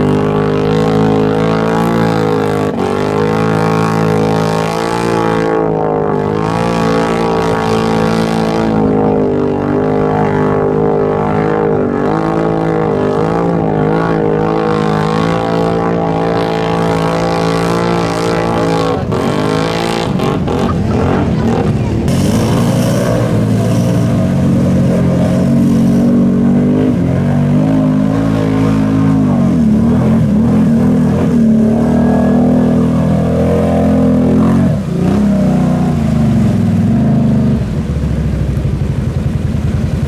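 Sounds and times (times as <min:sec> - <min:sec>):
off-road vehicle engines running: 0:00.0 - 0:40.0.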